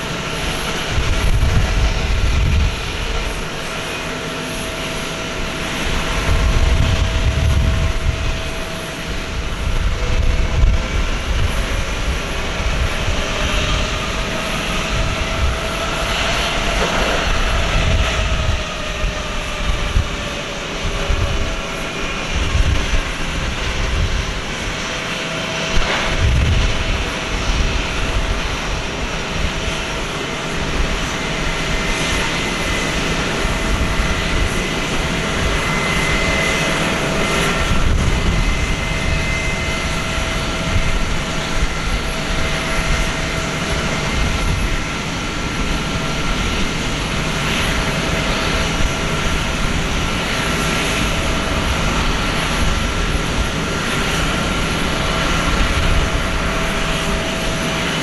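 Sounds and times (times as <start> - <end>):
jet engines running at taxi power: 0.0 - 58.0.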